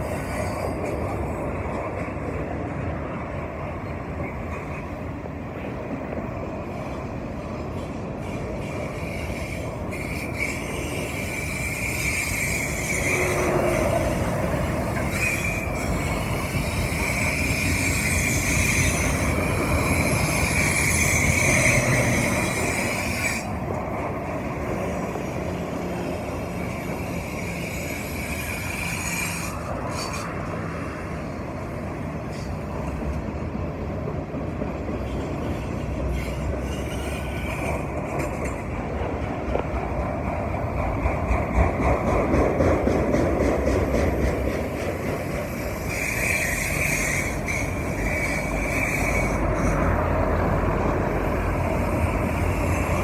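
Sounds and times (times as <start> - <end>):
train wheel squeal: 0.0 - 2.2, 6.4 - 33.4, 34.6 - 53.0
freight train rumbling past: 0.0 - 53.0.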